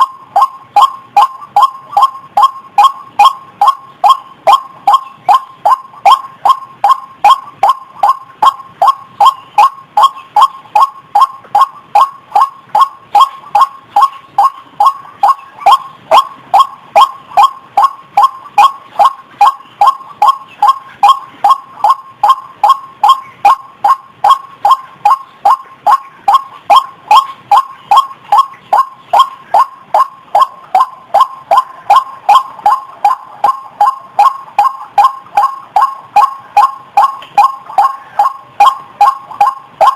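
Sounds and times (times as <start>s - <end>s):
waterhen call recording: 0.0s - 39.9s.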